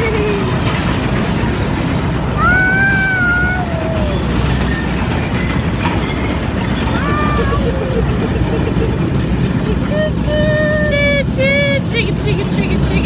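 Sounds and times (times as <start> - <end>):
park train rumbling: 0.0 - 13.0.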